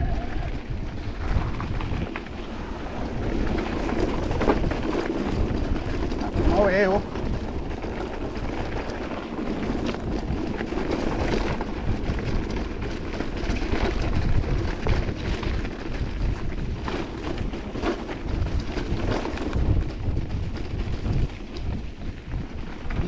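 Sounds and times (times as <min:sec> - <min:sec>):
bike low rumble: 0:00.0 - 0:23.0
wind buffeting microphone: 0:00.0 - 0:23.0.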